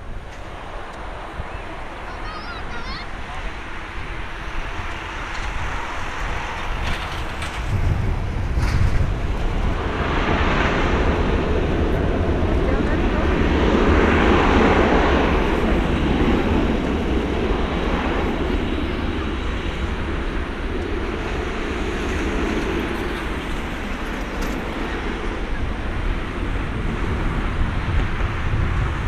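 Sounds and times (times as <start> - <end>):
jet engine roar: 0.0 - 29.0
wind buffeting microphone: 0.0 - 29.0.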